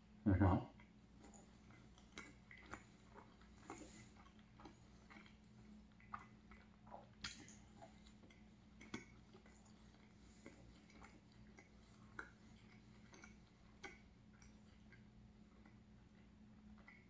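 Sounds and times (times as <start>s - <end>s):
faint chewing: 0.0s - 17.0s
wet mouth clicks: 0.8s - 17.0s.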